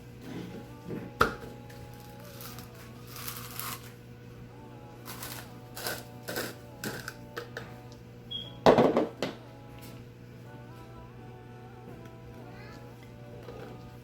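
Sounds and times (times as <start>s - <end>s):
background music: 0.2s - 14.0s.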